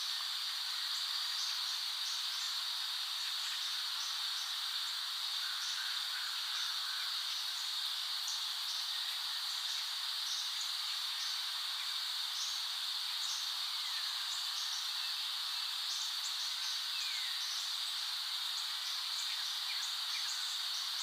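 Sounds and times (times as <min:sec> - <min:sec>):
insect chorus hiss: 0:00.0 - 0:21.0.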